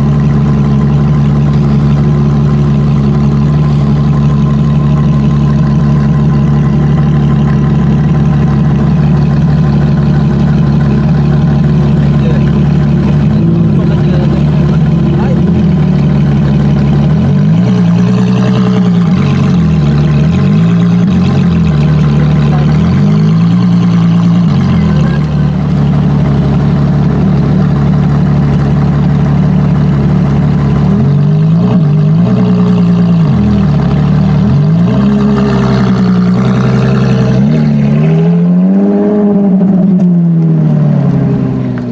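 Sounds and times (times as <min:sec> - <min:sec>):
car engine running at low revs: 0:00.0 - 0:41.9.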